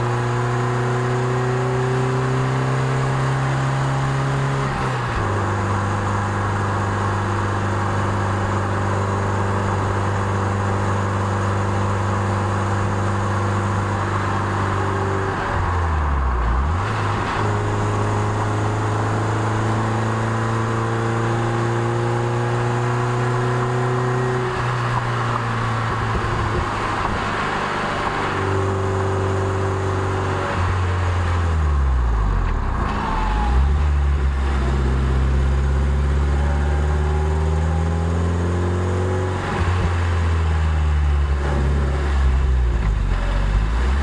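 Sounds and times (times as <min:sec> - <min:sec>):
car engine accelerating: 0:00.0 - 0:44.0
road noise: 0:00.0 - 0:44.0.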